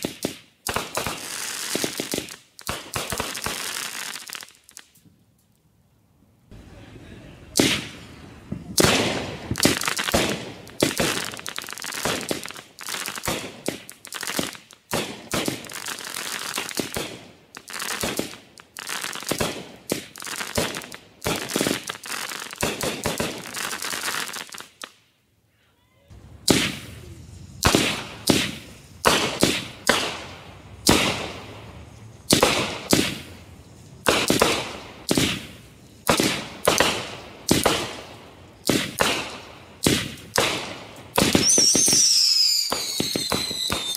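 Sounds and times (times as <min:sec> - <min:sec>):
firework reports and crackling: 0:00.0 - 0:05.0, 0:06.5 - 0:24.9, 0:26.1 - 0:43.9
firework shots: 0:00.0 - 0:05.1, 0:06.5 - 0:25.0, 0:26.1 - 0:43.9.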